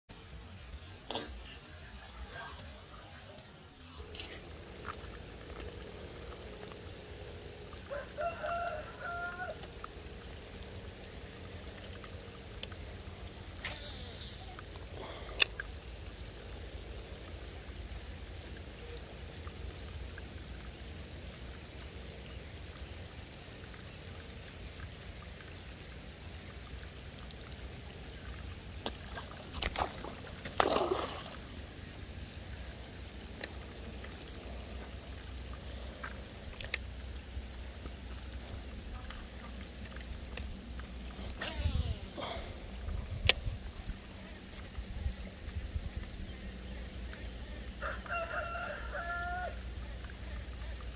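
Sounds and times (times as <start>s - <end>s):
rain falling on pond: 0.1s - 50.9s.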